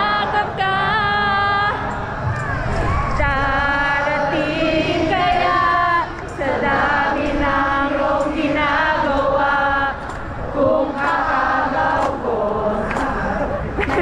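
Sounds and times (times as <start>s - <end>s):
crowd singing along: 0.0s - 14.0s
song over sound system: 0.0s - 14.0s.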